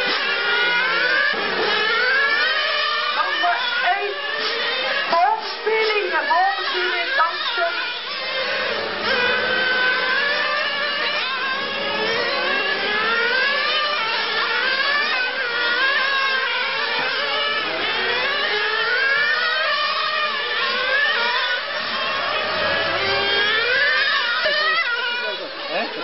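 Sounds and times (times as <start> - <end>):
small engines whining at high revs: 0.0 - 26.0.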